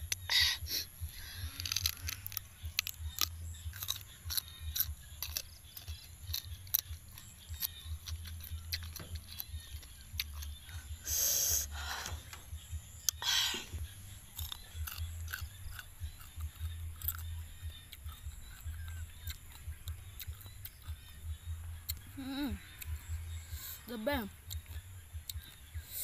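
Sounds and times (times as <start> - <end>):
person chewing crunchy fruit: 0.0 - 26.0.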